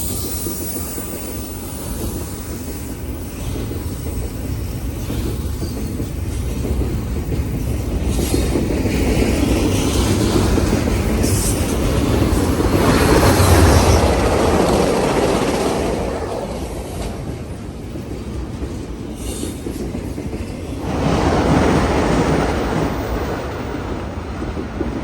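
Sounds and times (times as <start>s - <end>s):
train wheels rumbling and clattering: 0.0s - 25.0s.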